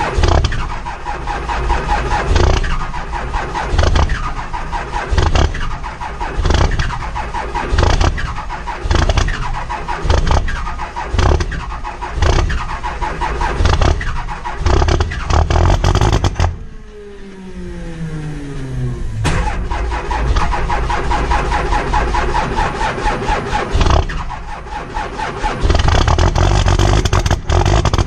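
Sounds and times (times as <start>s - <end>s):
diesel engine cranking: 0.0s - 28.0s
engine spinning down: 0.0s - 28.0s.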